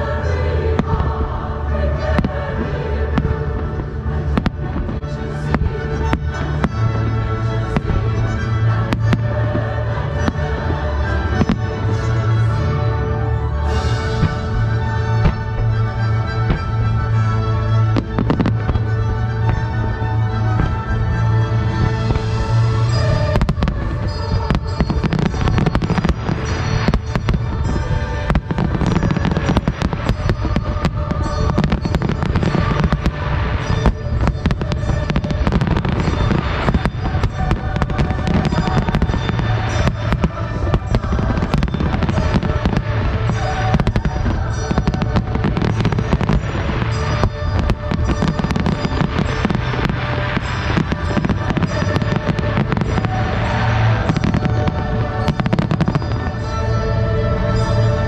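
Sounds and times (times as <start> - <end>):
fireworks bursting: 0.0 - 12.6, 13.6 - 56.7
music playing: 0.0 - 58.0.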